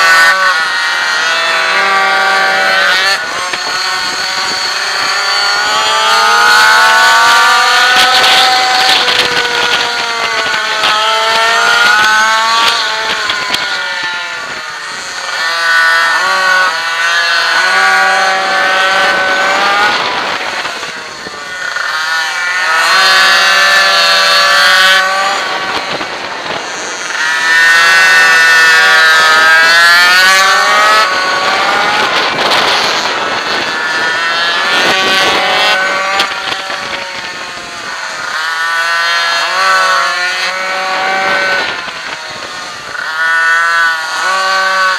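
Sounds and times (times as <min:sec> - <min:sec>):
small two-stroke engine revving: 0:00.0 - 0:44.9.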